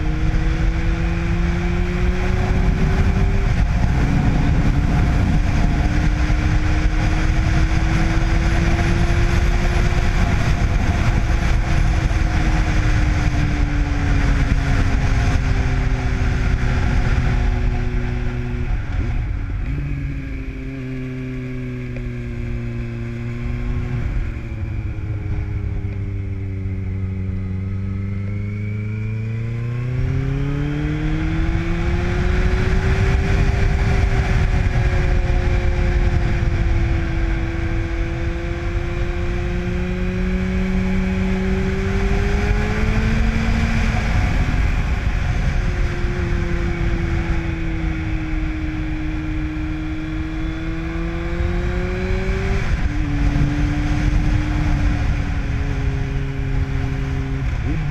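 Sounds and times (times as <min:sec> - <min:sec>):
wind rush: 0:00.0 - 0:28.1, 0:29.1 - 0:57.9
motorcycle engine revving: 0:00.0 - 0:57.9.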